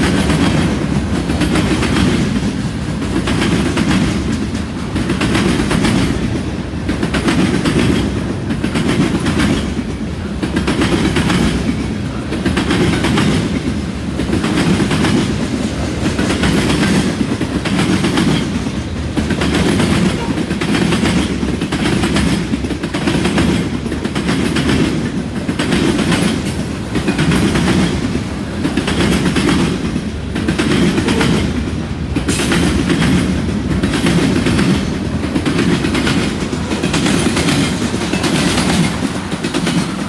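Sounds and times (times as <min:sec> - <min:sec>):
wheels clickety-clack over track: 0:00.0 - 0:40.0.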